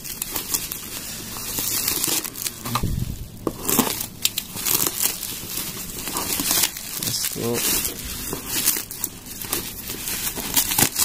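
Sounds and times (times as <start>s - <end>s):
plastic bag and bubble wrap crinkling: 0.0s - 11.0s.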